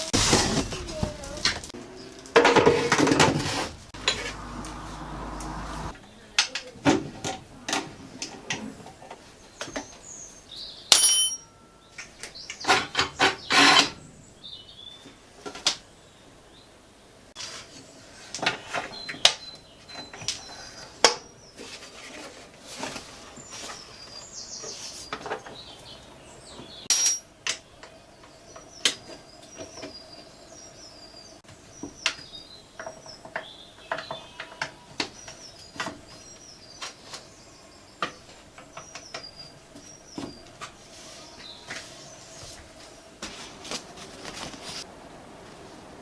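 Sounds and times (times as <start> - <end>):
birds chirping: 0.0 - 6.8, 7.5 - 21.8, 23.2 - 43.2.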